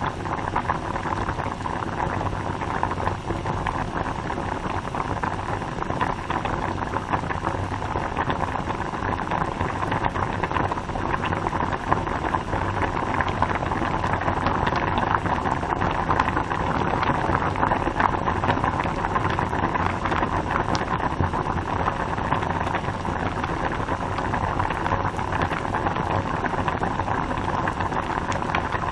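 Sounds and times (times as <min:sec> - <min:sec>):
pot of water boiling: 0:00.0 - 0:28.9.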